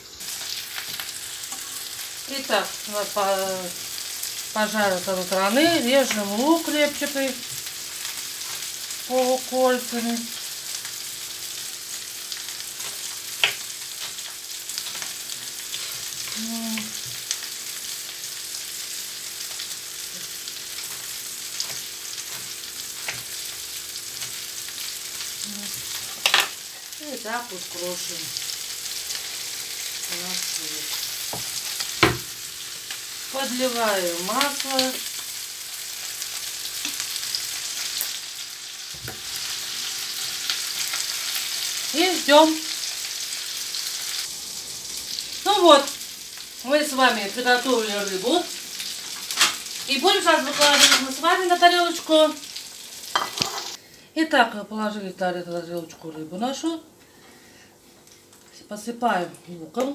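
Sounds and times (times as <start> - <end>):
fish frying in oil: 0.0 - 53.8.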